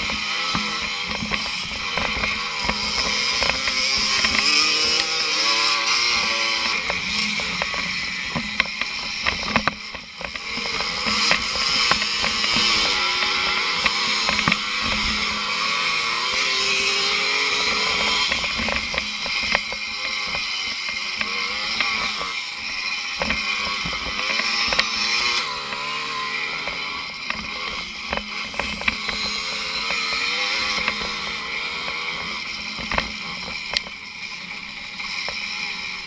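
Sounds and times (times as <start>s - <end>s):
two-stroke motorcycle engine: 0.0s - 36.0s.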